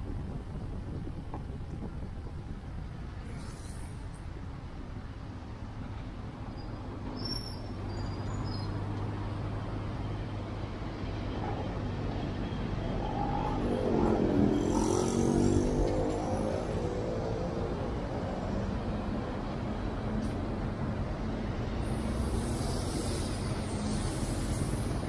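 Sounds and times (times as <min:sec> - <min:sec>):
motor vehicle rumble: 0:00.0 - 0:11.7, 0:12.4 - 0:25.0
road traffic: 0:00.0 - 0:25.0.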